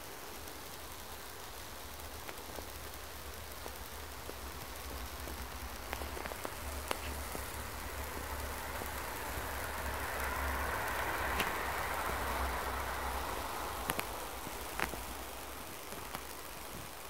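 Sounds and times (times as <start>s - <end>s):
power line crackling hiss: 0.0s - 17.0s.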